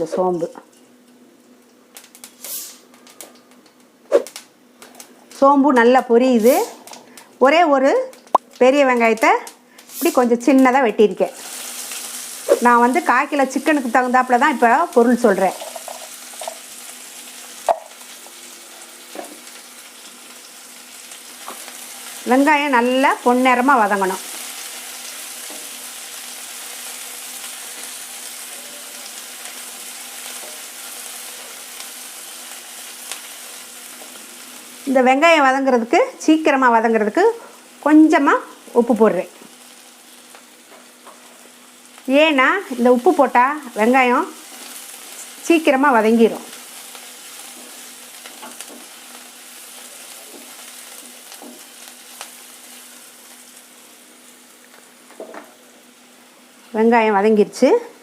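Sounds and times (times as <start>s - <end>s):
onion sizzling in hot oil: 0.0s - 57.8s.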